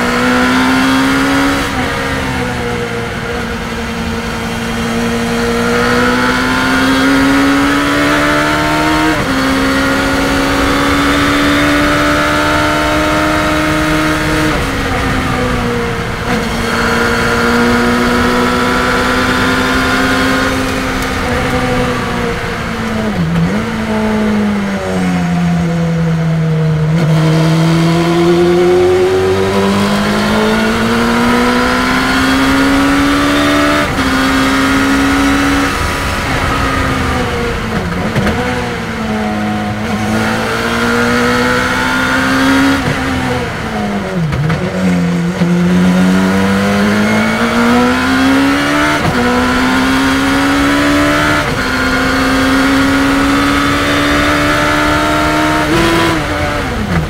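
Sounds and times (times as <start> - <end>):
race car engine revving: 0.0 - 57.0
rushing wind: 0.0 - 57.0.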